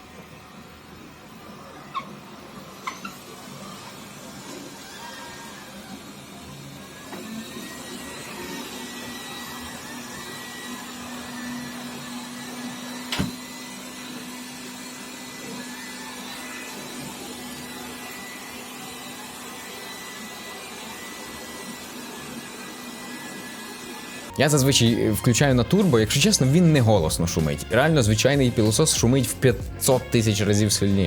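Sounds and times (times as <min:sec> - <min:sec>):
robot vacuum cleaner whirring: 0:00.0 - 0:31.0.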